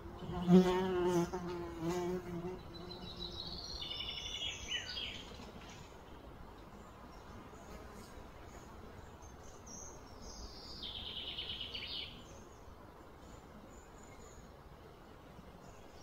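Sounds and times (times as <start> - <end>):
outdoor background hum: 0.0 - 16.0.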